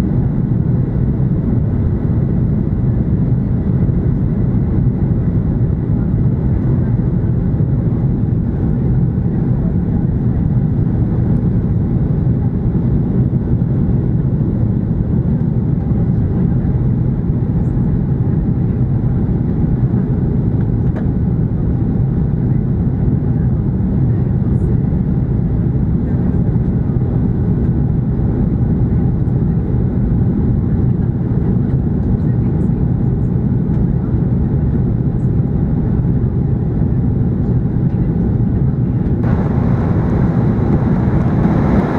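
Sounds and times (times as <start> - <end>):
airplane cabin jet engine rumble: 0.0 - 41.9.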